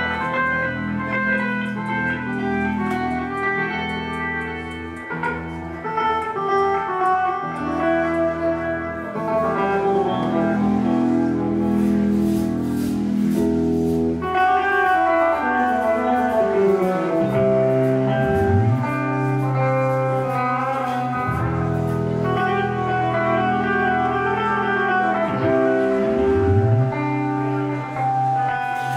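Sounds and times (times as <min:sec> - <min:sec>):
bass guitar: 0:00.0 - 0:28.9
drums: 0:00.0 - 0:28.9
electric guitars ringing: 0:00.0 - 0:28.9.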